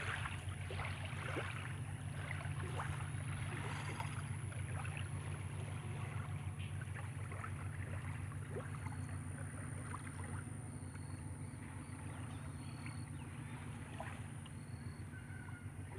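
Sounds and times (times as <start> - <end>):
steady low hum: 0.0 - 15.9
water lapping and trickling: 0.0 - 15.9.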